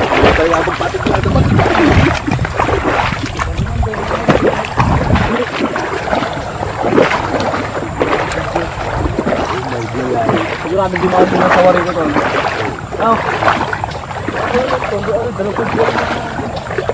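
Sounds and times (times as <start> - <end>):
people wading through water: 0.0 - 16.9.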